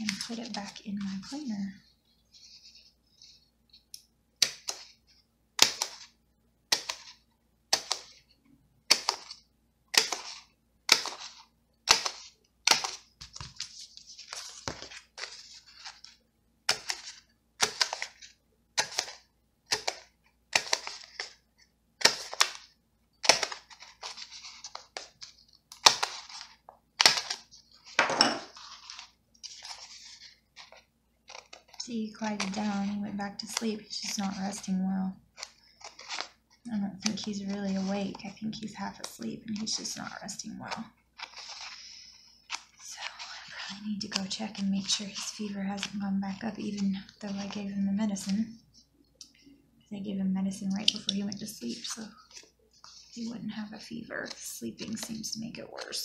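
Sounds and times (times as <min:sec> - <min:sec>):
paper rustling: 0:00.0 - 0:03.9, 0:09.0 - 0:48.8, 0:50.7 - 0:56.0.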